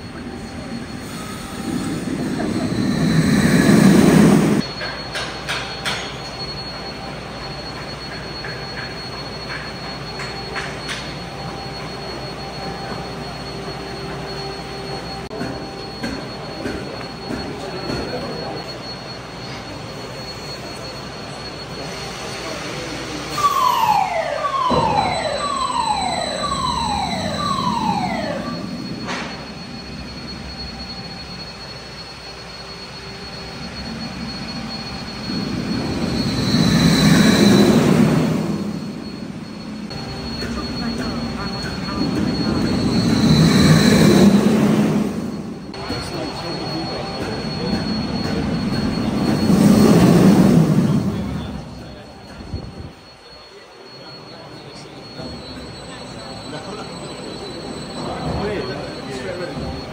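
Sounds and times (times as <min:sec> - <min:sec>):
falling electric whines: 0:00.0 - 0:59.9
roller coaster rumble on track: 0:00.0 - 0:59.9.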